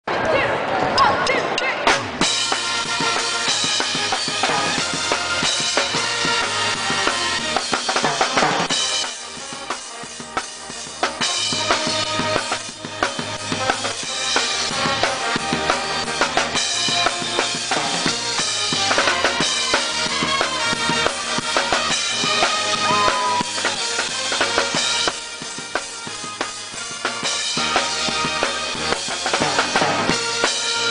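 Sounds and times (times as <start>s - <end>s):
music with drum kit beat: 1.9s - 30.9s.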